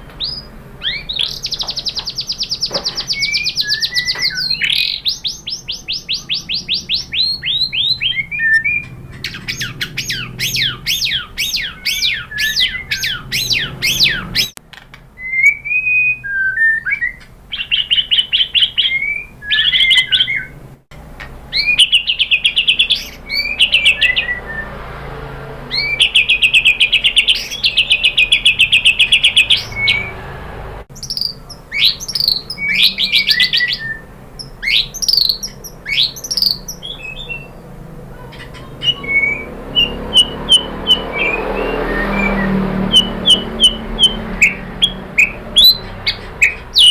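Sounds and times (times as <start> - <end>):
bird singing whistled song: 0.0 - 14.6, 15.2 - 20.6, 21.5 - 24.9, 25.7 - 30.2, 30.9 - 37.7, 38.4 - 46.9
rattling bird trills: 0.0 - 14.6, 21.2 - 24.4, 25.7 - 30.3, 30.9 - 46.9.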